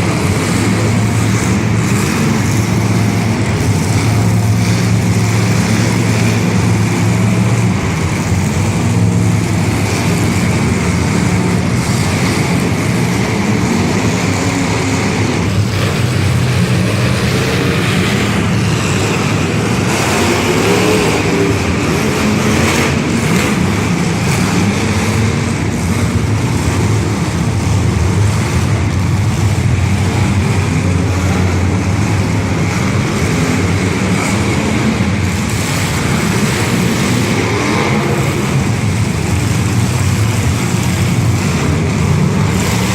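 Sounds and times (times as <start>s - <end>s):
car engines running loudly: 0.0s - 42.9s.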